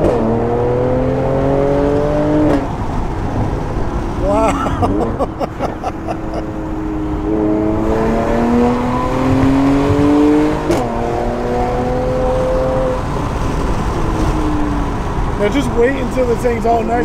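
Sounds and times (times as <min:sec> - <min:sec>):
car engine accelerating: 0:00.0 - 0:16.2.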